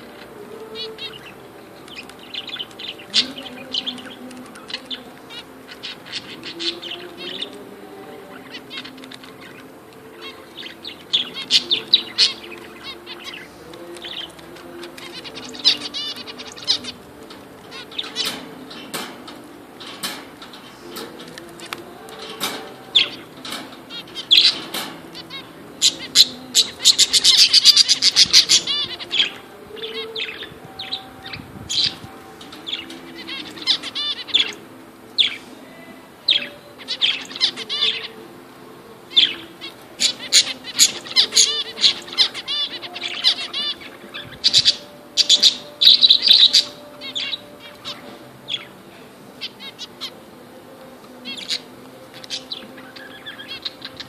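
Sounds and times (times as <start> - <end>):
finches calling: 0.0 - 54.0.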